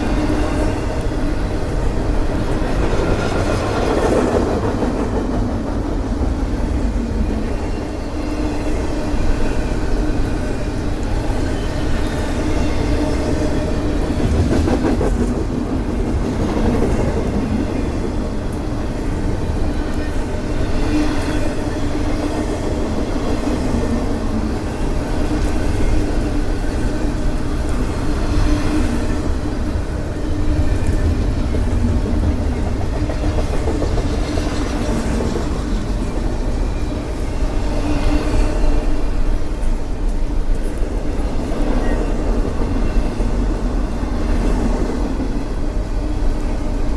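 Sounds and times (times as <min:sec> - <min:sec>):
freight train rumbling and rattling: 0:00.0 - 0:46.9.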